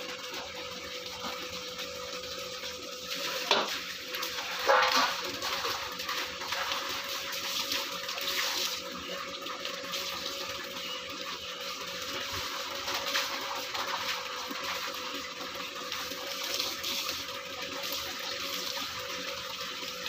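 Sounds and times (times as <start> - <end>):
water splashing in washing machine: 0.0 - 20.0.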